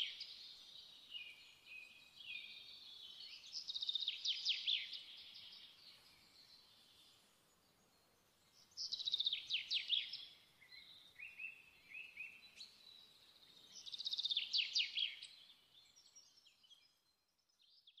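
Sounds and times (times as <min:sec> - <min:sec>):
songbird trilling and chirping: 0:00.0 - 0:18.0.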